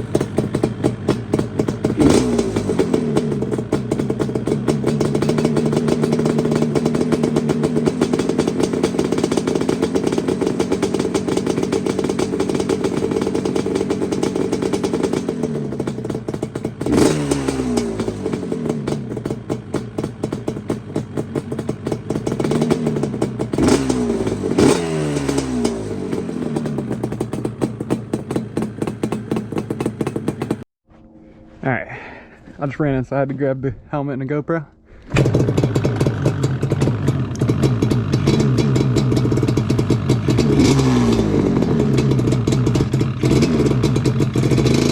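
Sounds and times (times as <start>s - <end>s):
two-stroke engine revving: 0.0s - 30.7s, 35.1s - 44.9s.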